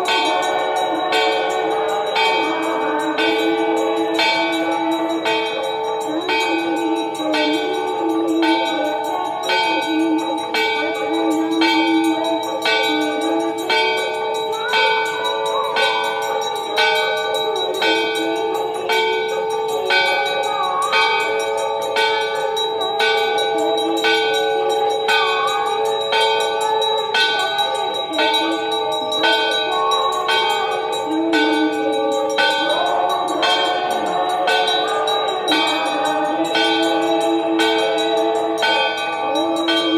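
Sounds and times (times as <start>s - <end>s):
temple bells ringing: 0.0s - 39.9s.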